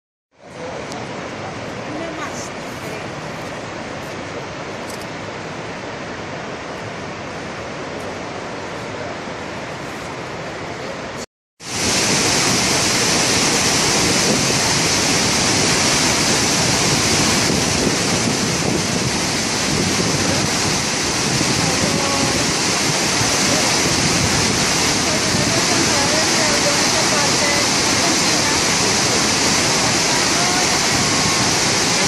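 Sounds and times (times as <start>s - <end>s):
waterfall roaring: 0.4s - 32.0s.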